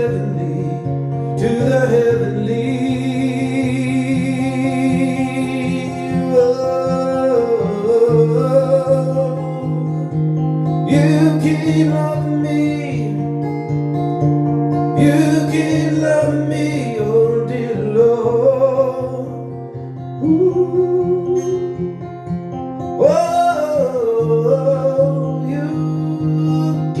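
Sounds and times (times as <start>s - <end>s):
person singing wordless melody: 0.0s - 10.2s, 10.8s - 13.4s, 15.0s - 19.5s, 20.2s - 22.2s, 22.8s - 27.0s
acoustic guitar: 0.0s - 27.0s.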